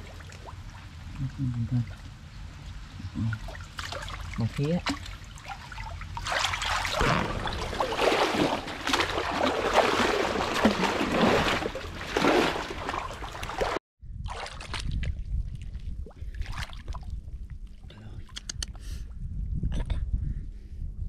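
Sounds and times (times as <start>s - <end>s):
muddy water splashing: 0.0s - 17.1s
low rumble: 0.0s - 21.0s.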